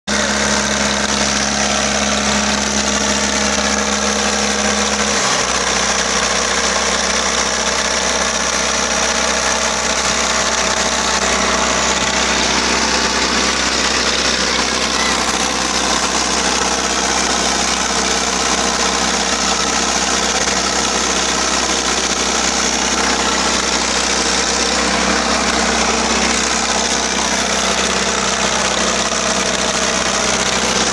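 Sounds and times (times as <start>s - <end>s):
diesel tractor engines running: 0.1s - 30.9s.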